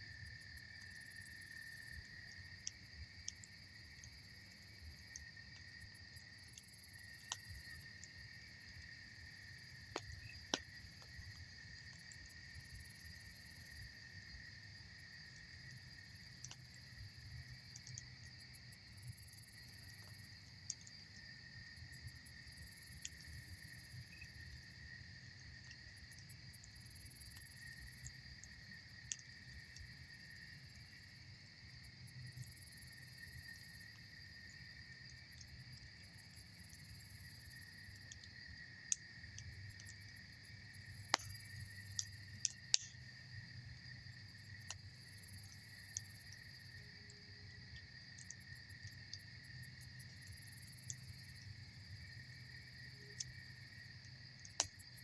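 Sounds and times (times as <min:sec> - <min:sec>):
crickets chirping: 0:00.0 - 0:55.0
campfire crackling and popping: 0:00.6 - 0:55.0.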